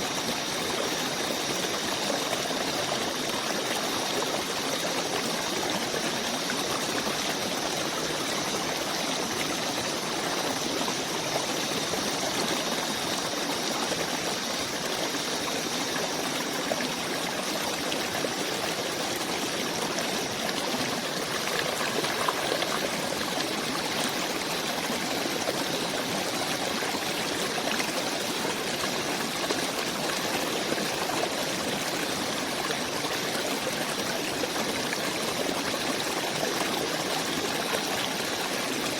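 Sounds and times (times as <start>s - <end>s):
stream of running water: 0.0s - 38.9s.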